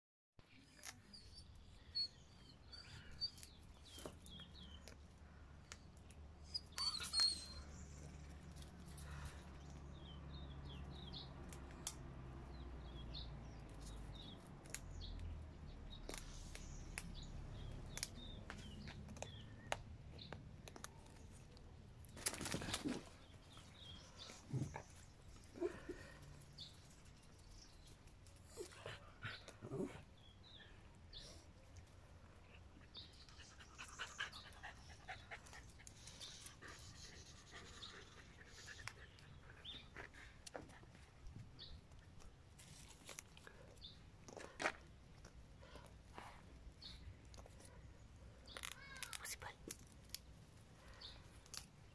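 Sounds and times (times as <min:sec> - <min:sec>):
small dogs panting and sniffing: 0:00.5 - 0:48.6, 0:49.6 - 0:51.9.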